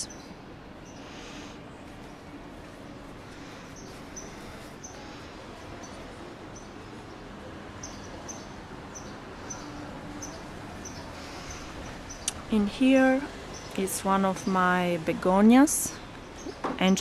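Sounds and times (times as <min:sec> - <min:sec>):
outdoor neighbourhood background noise: 0:00.0 - 0:17.0.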